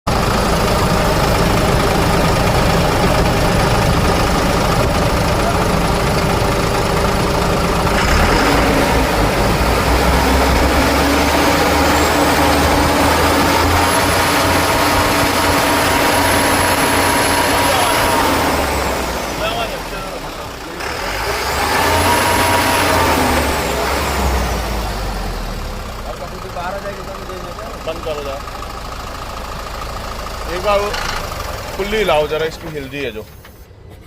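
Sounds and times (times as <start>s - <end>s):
diesel truck engine idling: 0.1s - 34.0s.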